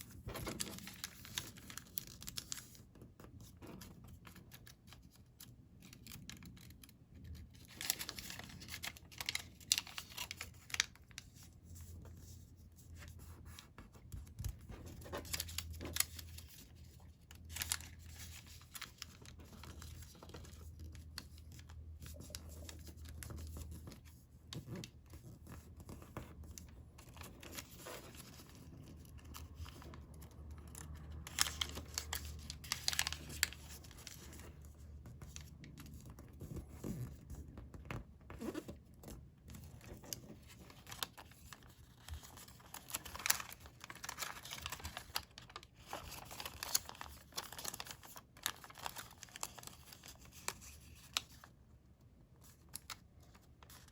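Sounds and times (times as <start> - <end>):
paper crinkling and rustling: 0.0 - 51.6, 52.4 - 53.9.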